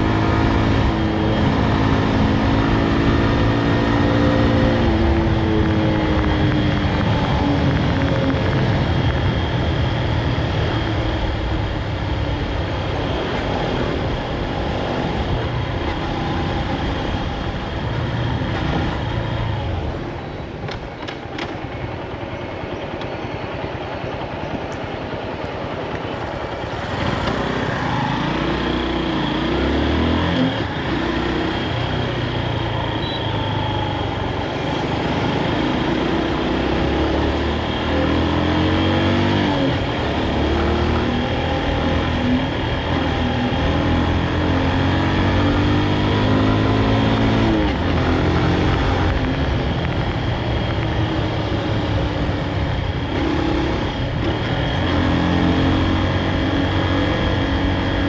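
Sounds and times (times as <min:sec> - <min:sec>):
motorcycle engine revving: 0:00.0 - 0:20.3, 0:21.0 - 0:58.0.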